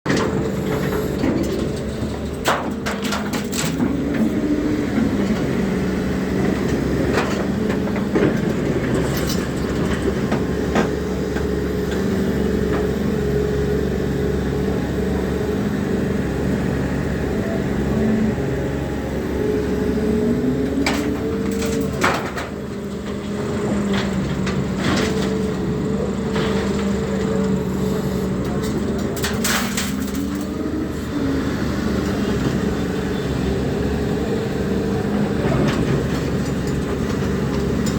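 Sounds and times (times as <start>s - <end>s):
excavator engine and hydraulics: 0.1s - 37.9s.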